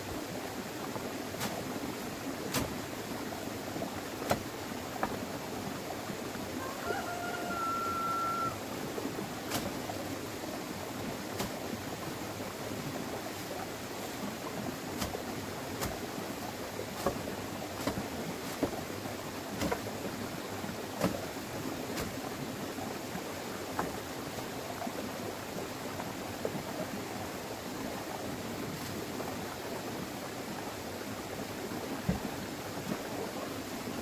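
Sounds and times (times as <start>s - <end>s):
steady rushing water: 0.0s - 34.0s.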